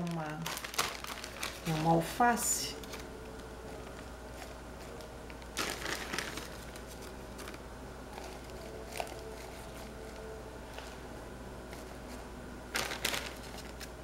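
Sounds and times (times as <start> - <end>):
lettuce leaves crinkling: 0.0 - 11.0, 11.7 - 14.0.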